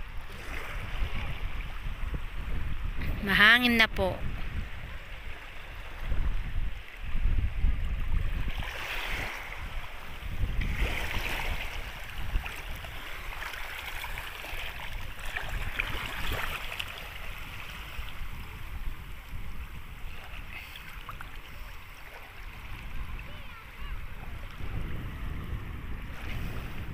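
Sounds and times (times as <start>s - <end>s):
small waves splashing on shore: 0.0s - 26.9s
wind rumbling on microphone: 0.0s - 26.9s.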